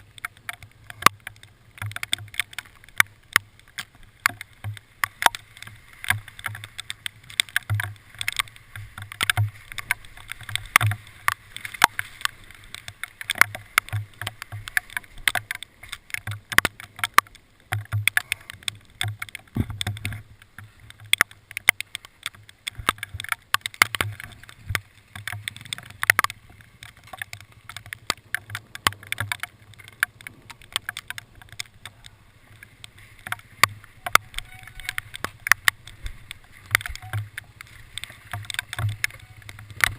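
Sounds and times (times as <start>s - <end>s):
hailstones clicking on hard surfaces: 0.0s - 39.9s.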